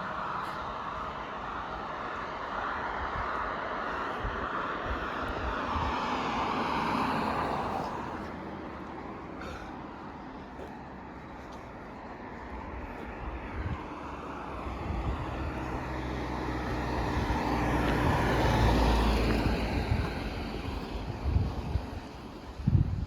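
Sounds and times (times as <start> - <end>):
road vehicle passing by: 0.0 - 23.0.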